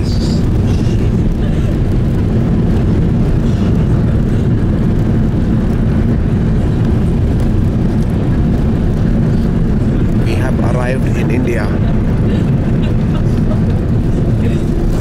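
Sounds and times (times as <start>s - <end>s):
airliner engine and runway rumble: 0.0s - 15.0s.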